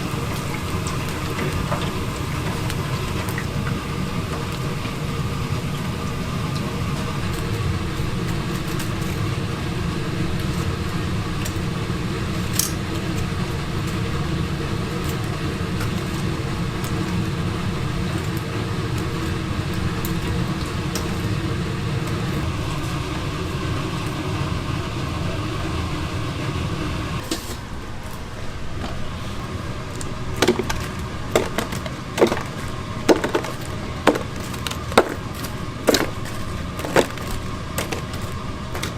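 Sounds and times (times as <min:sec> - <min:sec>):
kitchen equipment hum: 0:00.0 - 0:38.9
noisy wash: 0:00.0 - 0:38.9.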